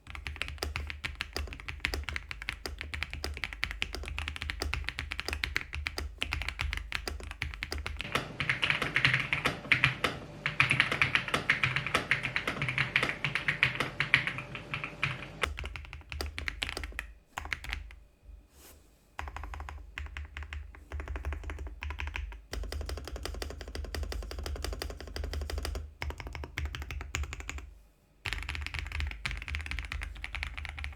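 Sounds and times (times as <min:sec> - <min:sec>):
mechanical keyboard typing: 0:00.0 - 0:18.0, 0:19.2 - 0:27.7, 0:28.3 - 0:30.9.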